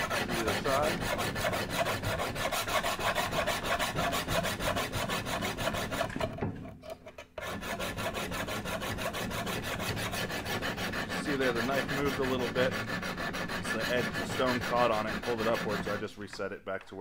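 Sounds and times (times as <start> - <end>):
sharpening stone rasping on knife: 0.0 - 6.2, 7.2 - 16.0.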